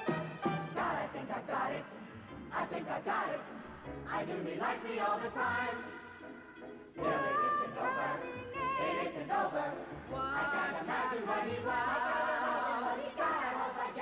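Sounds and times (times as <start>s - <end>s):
group of voices singing: 0.4s - 14.0s.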